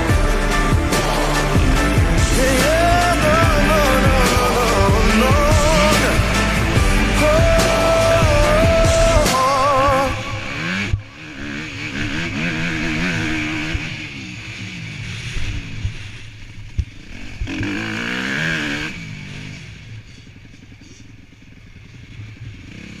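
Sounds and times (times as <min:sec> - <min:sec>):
motocross bike engine revving: 0:00.0 - 0:23.0.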